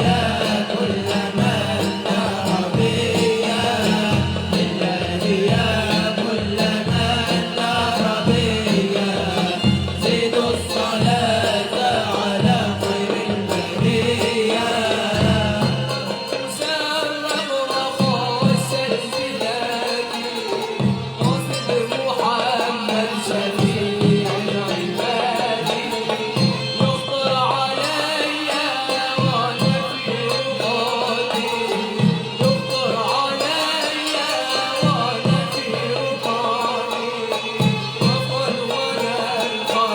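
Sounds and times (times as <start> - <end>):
hand drums beat: 0.0 - 39.9
voices singing: 0.0 - 39.9.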